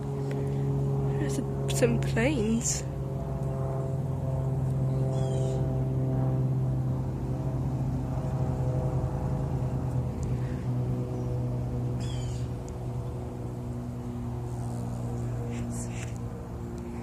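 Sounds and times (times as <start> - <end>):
airplanes passing overhead: 0.0 - 17.0.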